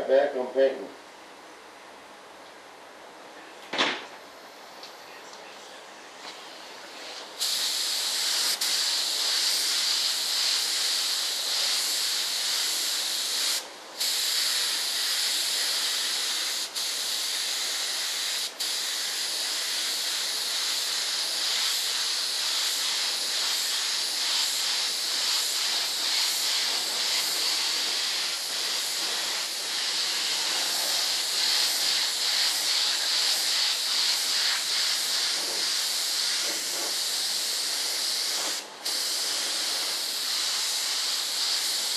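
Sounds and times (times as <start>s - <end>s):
paint spray gun hissing: 7.4s - 41.9s.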